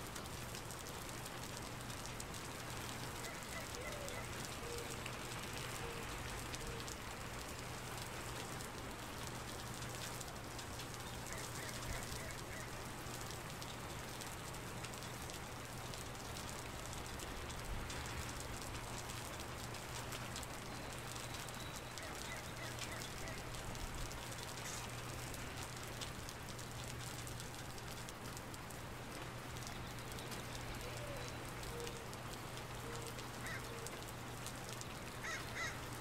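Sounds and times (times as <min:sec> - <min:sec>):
steady rain on wet pavement: 0:00.0 - 0:36.0.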